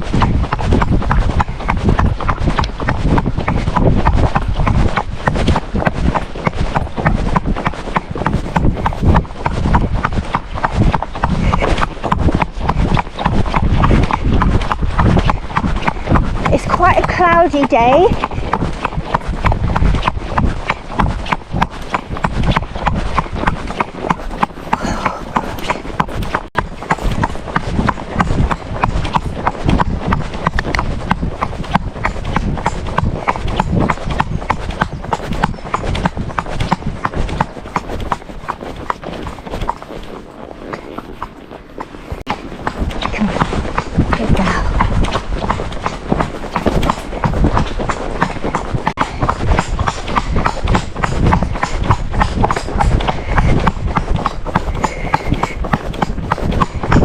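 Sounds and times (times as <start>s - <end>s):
horse hooves clip-clopping: 0.0s - 57.0s.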